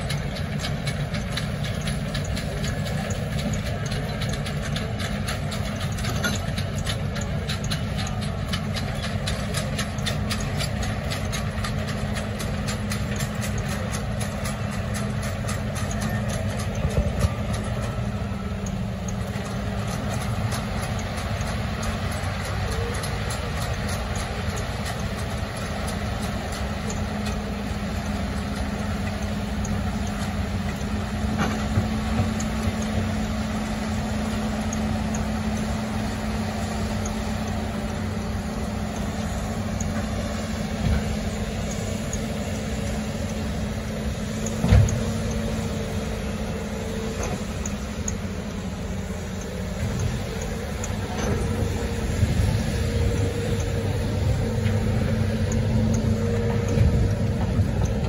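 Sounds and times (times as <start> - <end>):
diesel engine running: 0.0 - 58.0
tracks clattering: 0.0 - 58.0.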